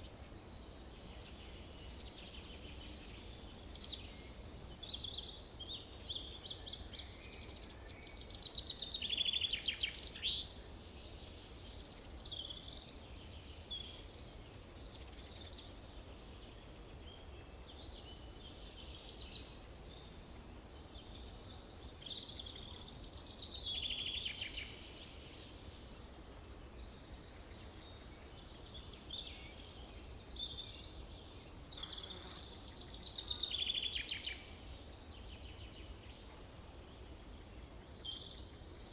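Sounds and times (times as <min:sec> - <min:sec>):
birds singing and trilling: 0:00.0 - 0:38.9.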